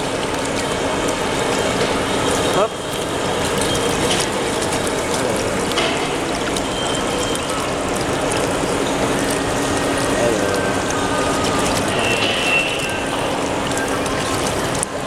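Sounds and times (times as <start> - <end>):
paddle wheel churning water: 0.0 - 15.0.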